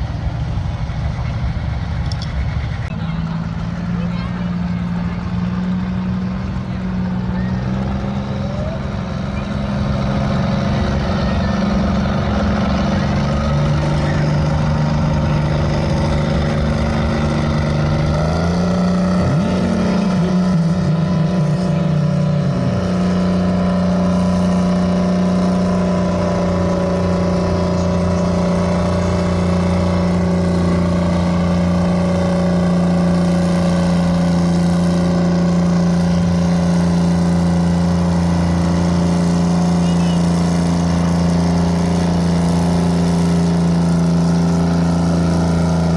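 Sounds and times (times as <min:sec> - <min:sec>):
tractor engine under load: 0:00.0 - 0:45.9.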